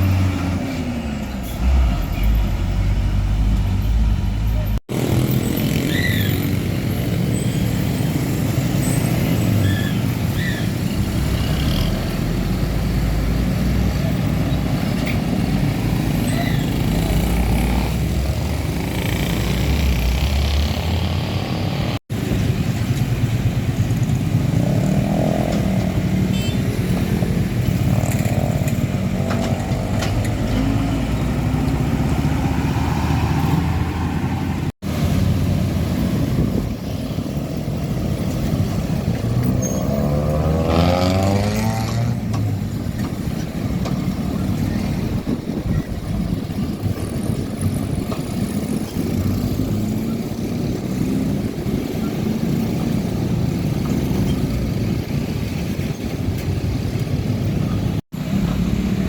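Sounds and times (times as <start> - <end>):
passing trucks and motorcycles: 0.0 - 59.0.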